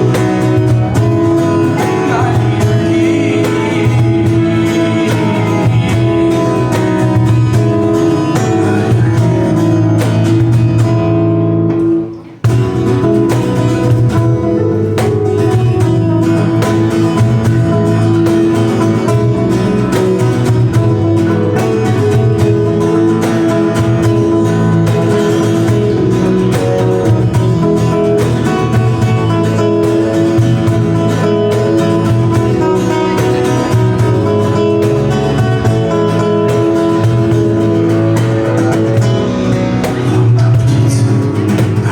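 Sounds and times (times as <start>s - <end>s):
acoustic guitar music: 0.0s - 41.9s.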